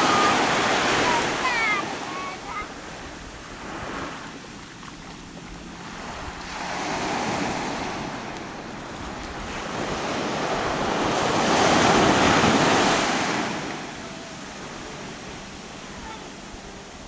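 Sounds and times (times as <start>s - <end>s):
small waves washing up beach: 0.0s - 17.0s.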